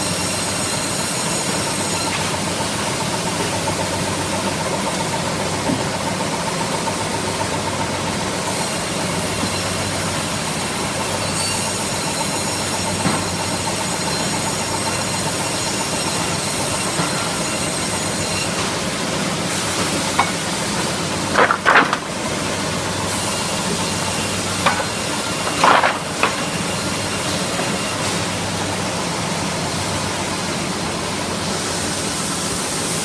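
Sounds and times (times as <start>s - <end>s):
sawmill machinery motor hum: 0.1s - 33.0s.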